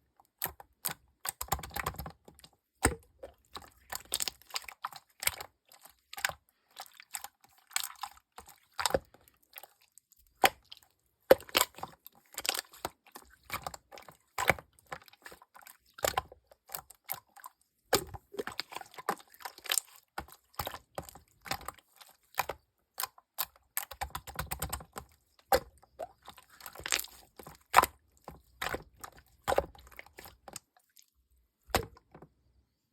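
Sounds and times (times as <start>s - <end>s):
slime squished by hand: 2.8s - 31.0s.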